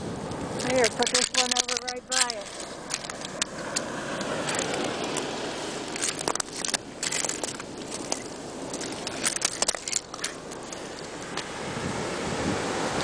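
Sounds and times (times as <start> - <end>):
surf washing on beach: 0.0 - 13.0.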